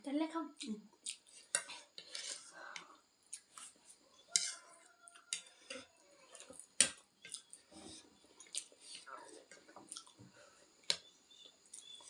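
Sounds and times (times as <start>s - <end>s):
faint eating sounds: 0.3s - 12.0s.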